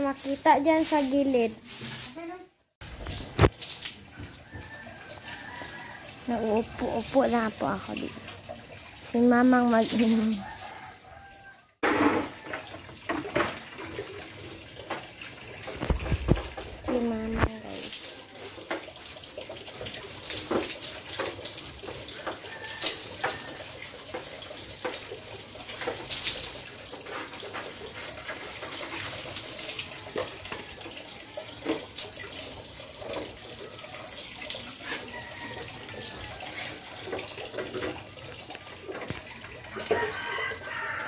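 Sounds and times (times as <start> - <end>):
water splashing on metal stove: 2.8 - 41.0.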